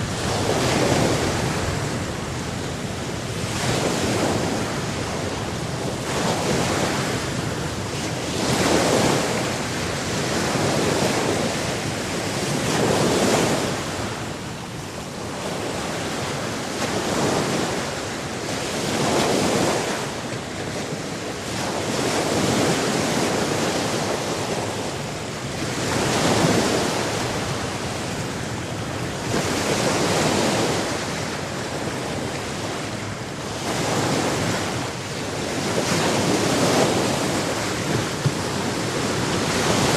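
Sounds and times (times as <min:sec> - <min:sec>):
waves washing in and back: 0:00.0 - 0:39.9.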